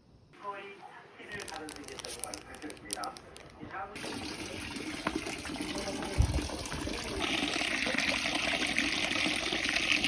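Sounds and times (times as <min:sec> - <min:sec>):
water running: 0:01.4 - 0:10.0.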